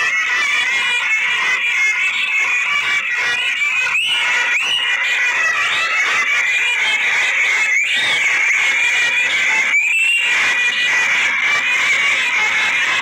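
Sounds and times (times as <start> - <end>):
shrill reed wind instrument melody: 0.0 - 13.0.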